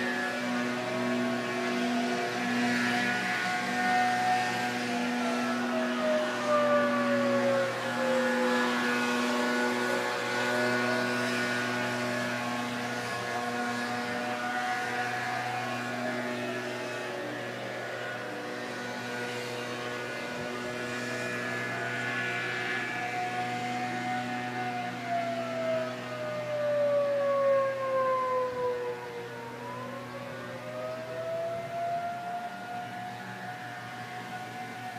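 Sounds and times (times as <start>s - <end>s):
warning siren wailing: 0.0s - 34.9s.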